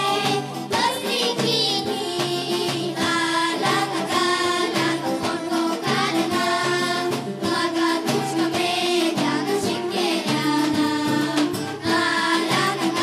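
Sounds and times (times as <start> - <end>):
children's choir singing folk song: 0.0 - 13.0
instrumental accompaniment: 0.0 - 13.0.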